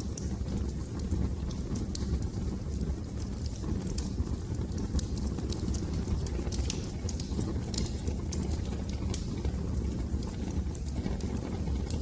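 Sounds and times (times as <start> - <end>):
fire crackling and popping: 0.0 - 12.0
low rumble of flames: 0.0 - 12.0.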